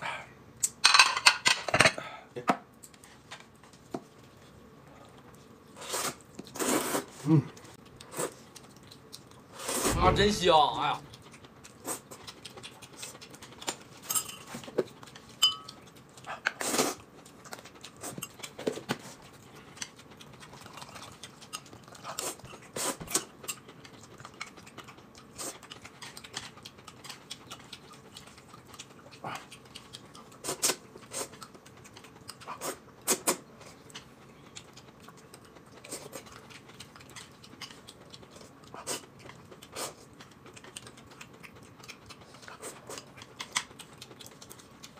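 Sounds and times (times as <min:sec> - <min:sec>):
chewing: 0:02.8 - 0:09.7, 0:11.0 - 0:44.9.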